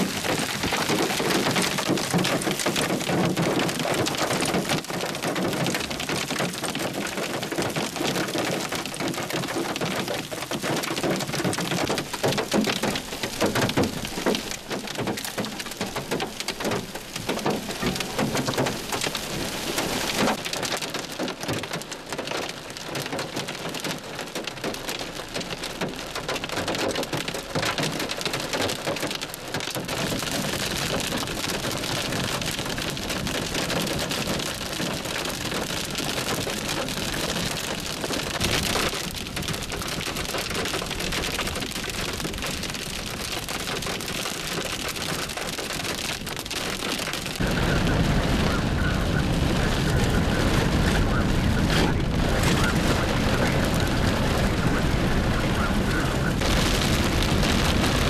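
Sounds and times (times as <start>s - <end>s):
hail falling: 0.0s - 58.0s.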